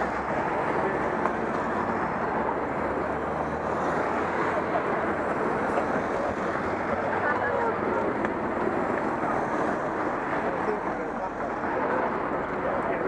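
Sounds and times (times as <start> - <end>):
crowd hubbub: 0.0 - 13.0
vehicles driving past: 0.0 - 13.0.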